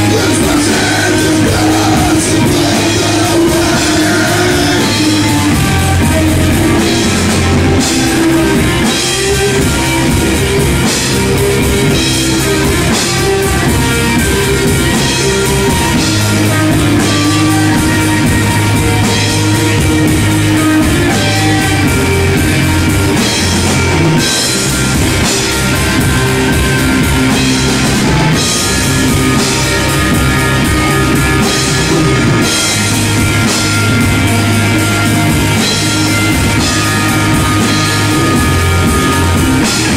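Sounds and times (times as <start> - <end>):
drum kit with crashing cymbals: 0.0 - 39.9
electric guitar: 0.0 - 39.9.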